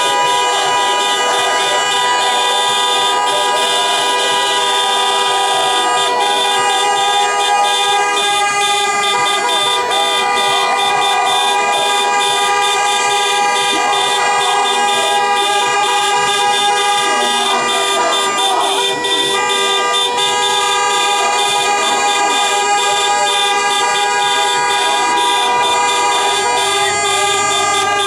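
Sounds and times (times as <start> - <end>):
crowd shouting and cheering: 0.0 - 28.0
horns blaring: 0.0 - 28.0.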